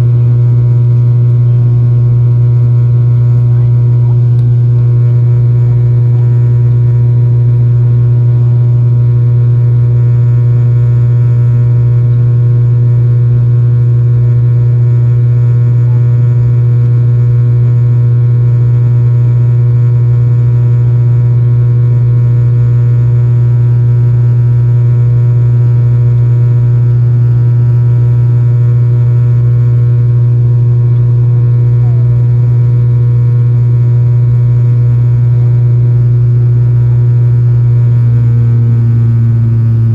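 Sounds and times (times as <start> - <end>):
turboprop engine hum: 0.0 - 39.9.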